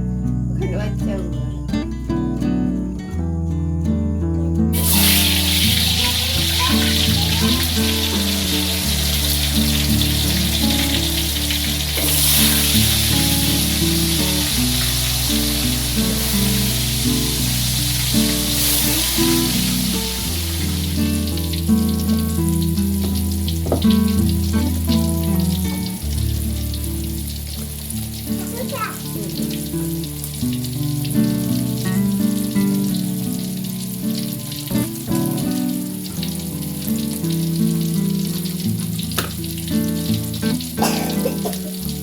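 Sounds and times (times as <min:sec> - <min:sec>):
instrumental background music: 0:00.0 - 0:42.0
tofu sizzling in hot oil: 0:04.7 - 0:42.0.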